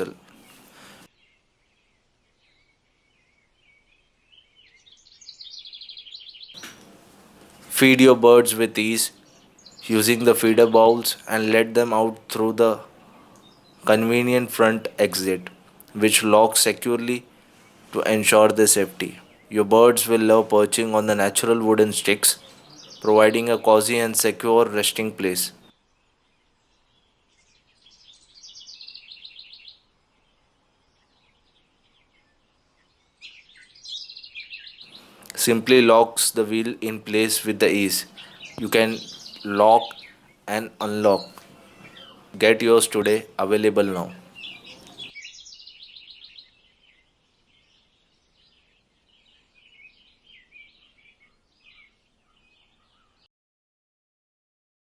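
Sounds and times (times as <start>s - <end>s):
small birds chirping: 0.0s - 53.3s.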